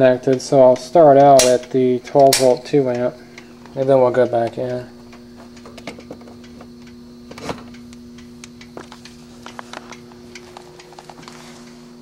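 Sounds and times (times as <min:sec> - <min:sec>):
battery charger electrical hum: 0:00.0 - 0:12.0.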